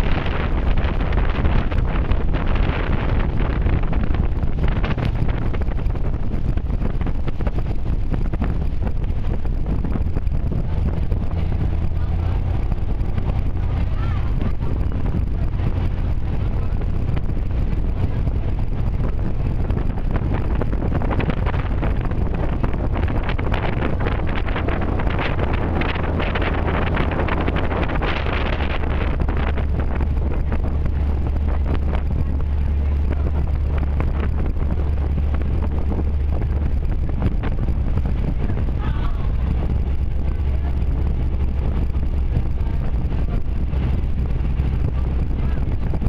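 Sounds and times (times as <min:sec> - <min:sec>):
ferry engine drone: 0:00.0 - 0:46.0
wind buffeting microphone: 0:00.0 - 0:46.0.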